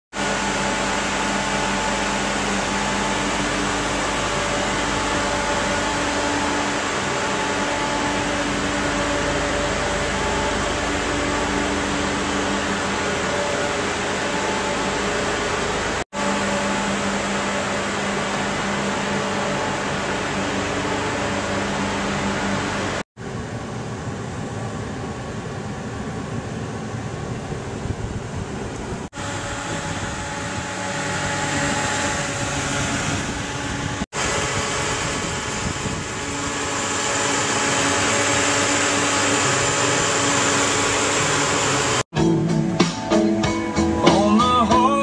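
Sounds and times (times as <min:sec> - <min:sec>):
rushing air noise: 0:00.1 - 0:42.1
steady mechanical hum: 0:00.1 - 0:42.1.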